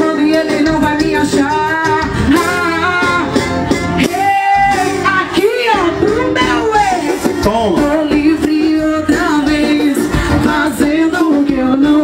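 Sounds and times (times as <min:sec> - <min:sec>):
live band music: 0:00.0 - 0:12.0
woman singing: 0:00.0 - 0:12.0.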